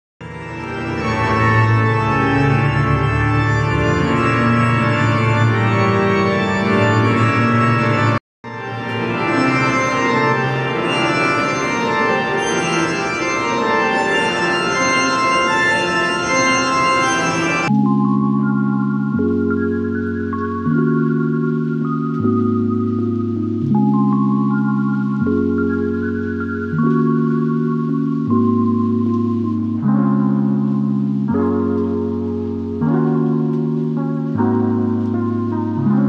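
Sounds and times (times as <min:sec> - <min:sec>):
music of sustained held chords: 0:00.2 - 0:36.0.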